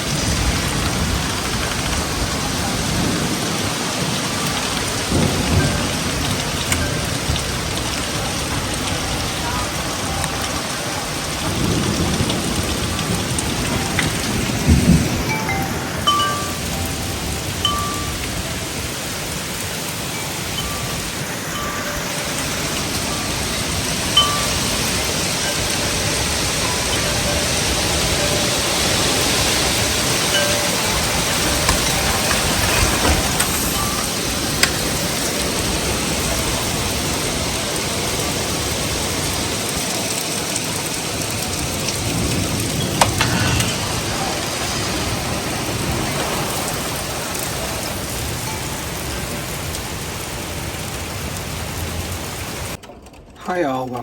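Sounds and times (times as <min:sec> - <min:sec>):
heavy rain: 0:00.0 - 0:53.2
wind chimes ringing: 0:04.1 - 0:50.7.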